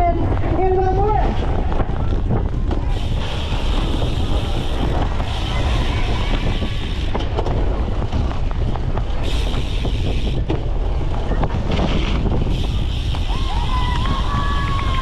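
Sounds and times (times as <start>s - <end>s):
bike rattling and clicking: 0.0s - 15.0s
tyres rumbling on rough ground: 0.0s - 15.0s
wind: 0.0s - 15.0s.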